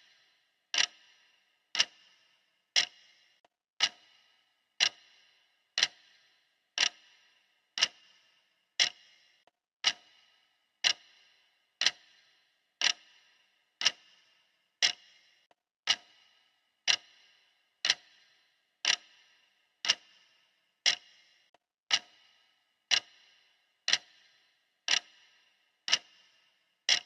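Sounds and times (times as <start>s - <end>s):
clock ticking: 0.0s - 27.0s.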